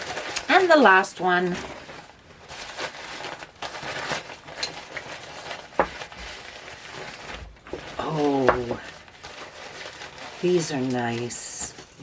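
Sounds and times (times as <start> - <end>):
paper packing rustling: 0.0 - 12.0.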